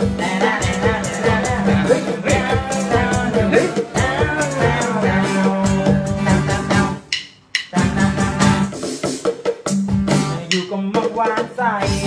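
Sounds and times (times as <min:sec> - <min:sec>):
music with bass and melody: 0:00.0 - 0:12.0.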